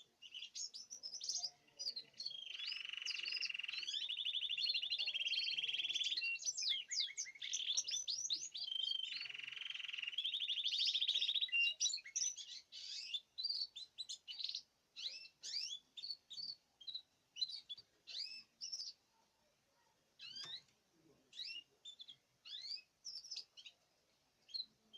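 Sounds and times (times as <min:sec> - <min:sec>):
canary singing trills and chirps: 0:00.0 - 0:19.2, 0:20.2 - 0:23.8, 0:24.4 - 0:24.9.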